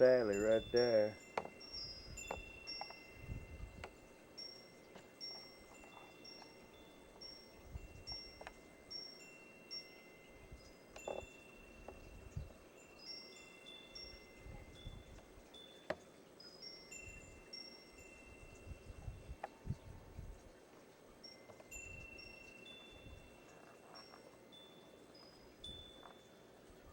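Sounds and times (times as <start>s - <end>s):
chimes tinkling: 0.0s - 26.9s.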